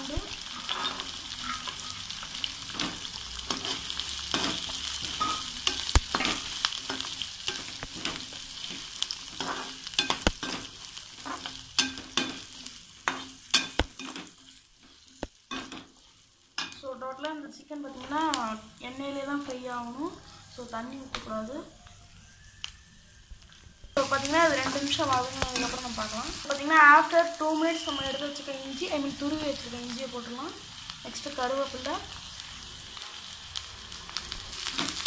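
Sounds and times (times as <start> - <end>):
onions sizzling in oil: 0.0 - 35.0.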